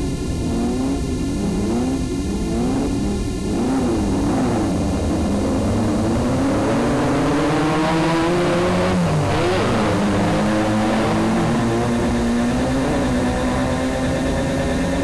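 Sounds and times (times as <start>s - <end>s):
racing buggy engines revving: 0.0s - 15.0s.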